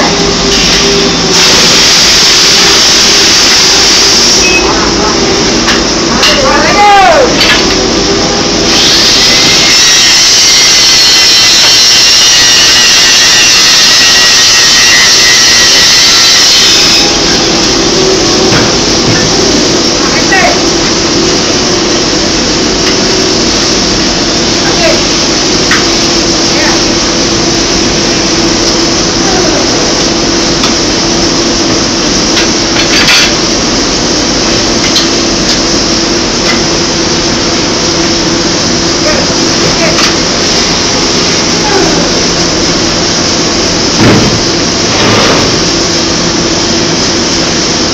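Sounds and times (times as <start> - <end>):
machinery hum: 0.0 - 47.9.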